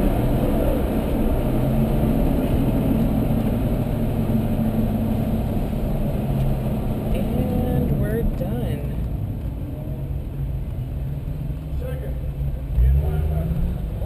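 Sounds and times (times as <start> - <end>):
car engine running steadily: 0.0 - 14.0
road and wind noise: 0.0 - 14.0.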